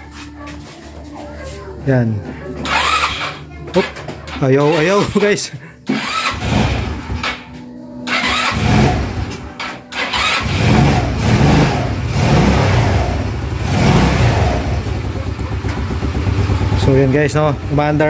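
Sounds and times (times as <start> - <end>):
scooter engine starting and revving: 2.6 - 7.4, 8.1 - 18.0.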